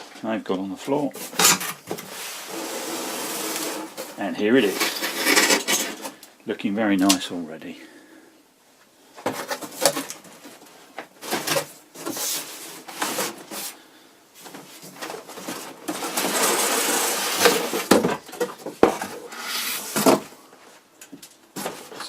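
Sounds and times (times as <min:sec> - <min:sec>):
cardboard and plastic packaging rustling: 0:00.0 - 0:06.4, 0:09.1 - 0:22.0.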